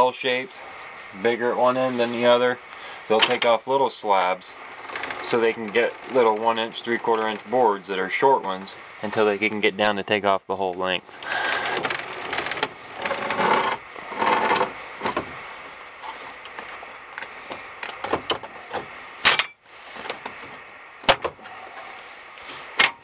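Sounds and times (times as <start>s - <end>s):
rustling and scraping: 0.0s - 9.9s, 10.7s - 23.0s.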